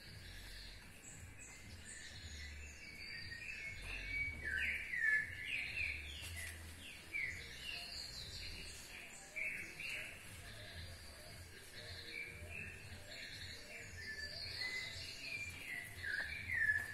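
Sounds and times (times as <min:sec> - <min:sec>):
birds chirping and calling: 0:00.0 - 0:16.9.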